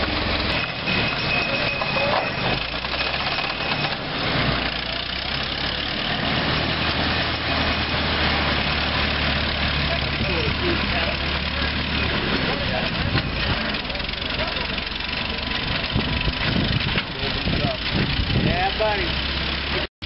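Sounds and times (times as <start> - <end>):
engine running at low speed: 0.0 - 19.9.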